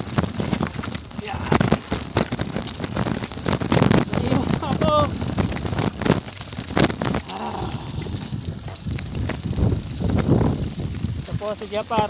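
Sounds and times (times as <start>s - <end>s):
mountain bike rattling and knocking: 0.0s - 12.0s
steady low rumble: 1.2s - 12.0s.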